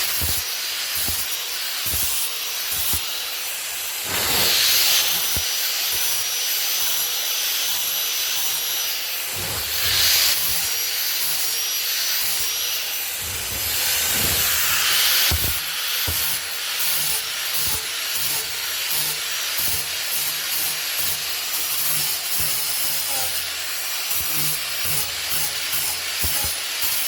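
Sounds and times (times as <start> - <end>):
power tool sanding wood: 0.0 - 6.3, 7.0 - 23.5.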